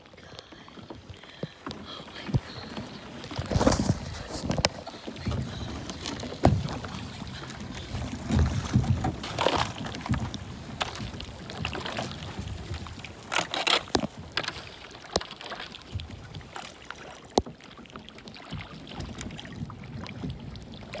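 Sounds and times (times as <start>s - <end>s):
paddle splashing and dripping: 0.0s - 21.0s.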